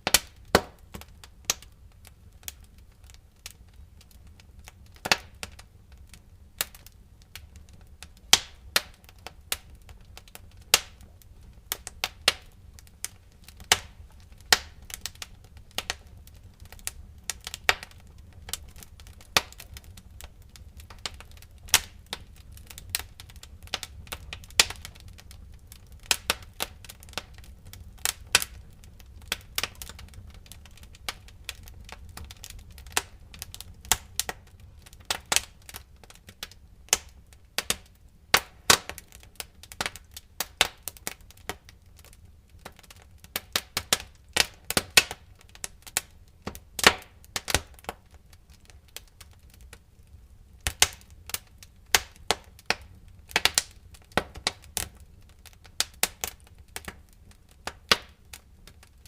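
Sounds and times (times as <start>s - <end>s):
low fire rumble: 0.0s - 59.0s
wood fire popping and snapping: 0.0s - 59.0s.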